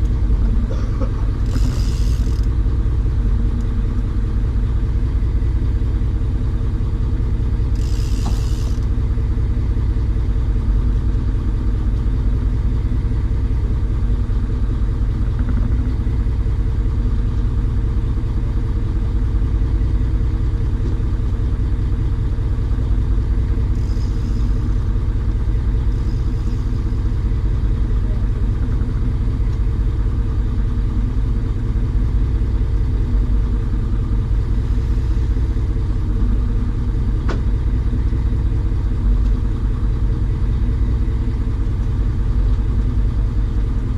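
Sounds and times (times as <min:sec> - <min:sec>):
engine droning steadily: 0:00.0 - 0:43.9.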